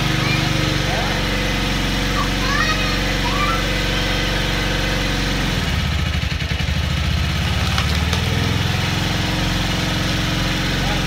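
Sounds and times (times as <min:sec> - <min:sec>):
log splitter engine running: 0:00.0 - 0:11.0.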